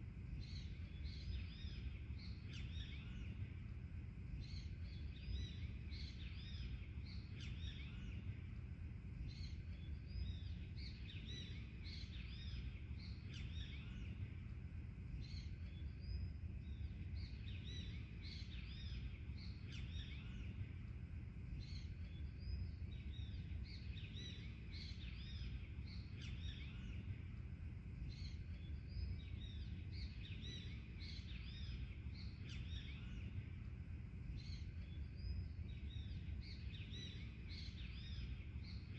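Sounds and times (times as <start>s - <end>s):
low background rumble: 0.0s - 38.9s
birds chirping: 4.3s - 38.9s.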